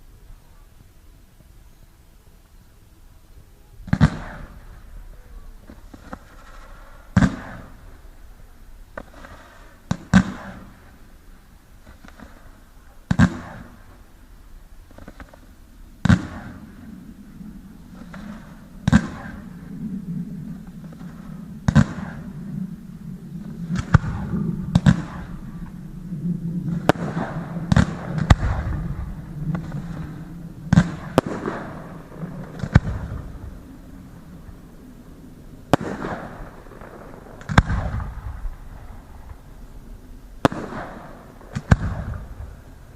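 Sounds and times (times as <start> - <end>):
fireworks crackling: 0.0 - 42.9
low rumble of echo: 0.0 - 42.9.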